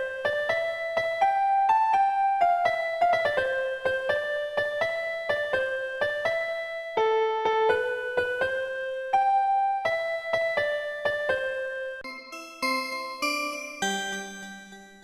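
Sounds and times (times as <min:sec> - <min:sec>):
electric piano ringtone melody: 0:00.0 - 0:15.0.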